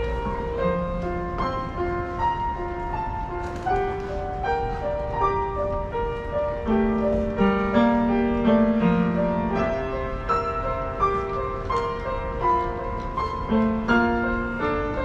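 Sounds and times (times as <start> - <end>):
rapidly repeated piano notes: 0.0 - 15.0
upright piano melody over chords: 0.0 - 15.0.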